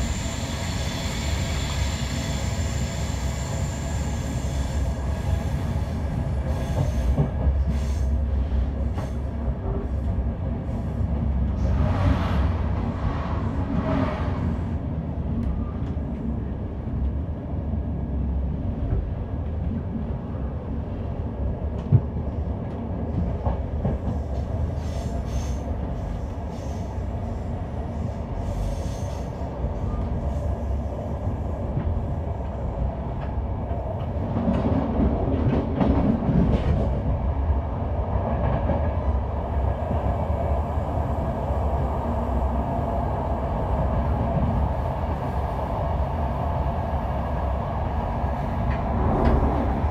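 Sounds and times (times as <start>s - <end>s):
train rumbling along track: 0.0s - 49.9s.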